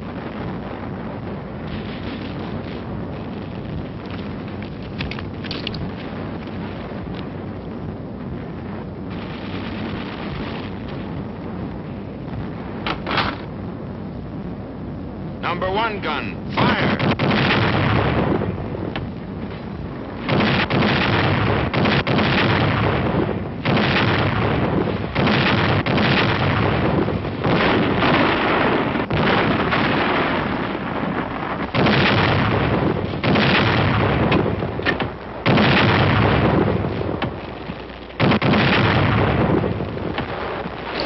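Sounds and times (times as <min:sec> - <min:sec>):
artillery booms with rumble: 0:00.0 - 0:15.4, 0:16.5 - 0:41.0.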